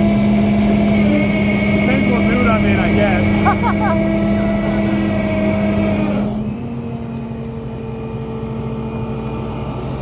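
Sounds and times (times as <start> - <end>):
tow truck engine running: 0.0 - 10.0.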